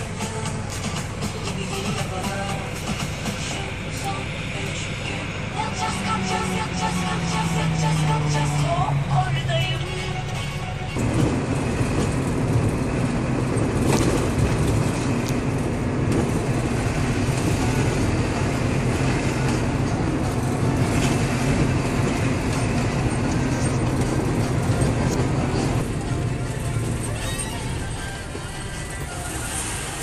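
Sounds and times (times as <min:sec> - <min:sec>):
diesel engine droning: 0:00.0 - 0:30.0
road noise: 0:00.0 - 0:30.0.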